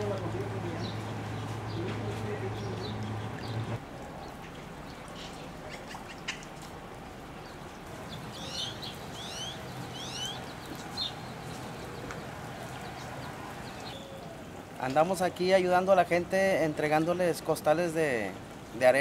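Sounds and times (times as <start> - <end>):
birds chirping: 0.0 - 19.0
water rushing: 0.0 - 19.0.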